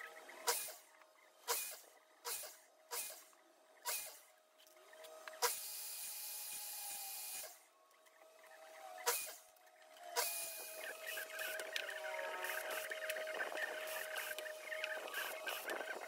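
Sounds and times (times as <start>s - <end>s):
miter saw cutting wood: 0.0s - 16.0s.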